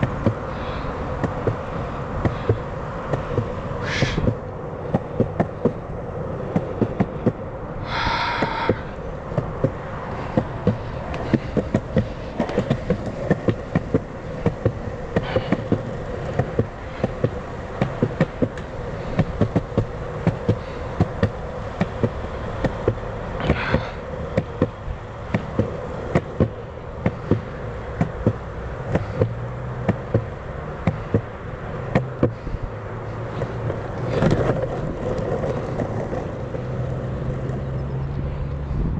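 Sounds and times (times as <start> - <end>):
rapid irregular clicks: 0.0 - 32.5
skateboard wheels rolling on pavement: 0.0 - 38.9.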